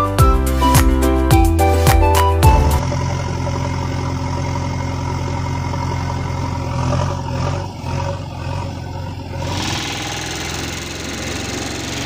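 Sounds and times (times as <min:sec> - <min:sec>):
diesel engine idling: 0:00.6 - 0:12.0.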